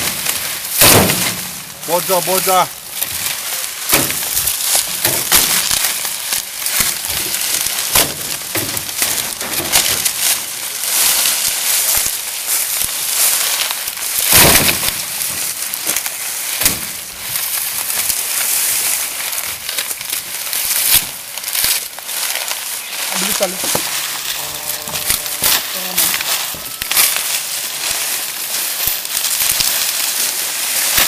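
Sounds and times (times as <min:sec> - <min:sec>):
loud crunch: 0:00.0 - 0:31.0
sugarcane stalks rustling and knocking: 0:00.0 - 0:31.0.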